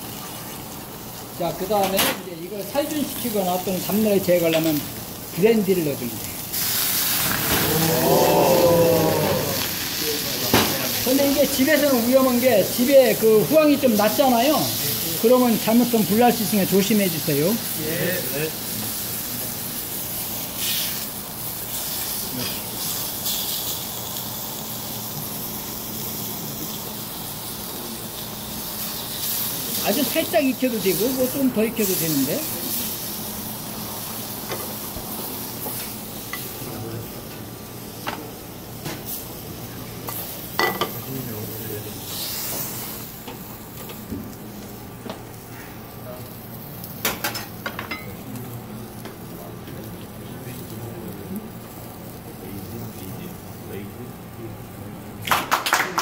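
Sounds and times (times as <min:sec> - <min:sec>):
steak sizzling in a pan: 0:00.0 - 0:53.7
kitchen hum: 0:00.0 - 0:55.3.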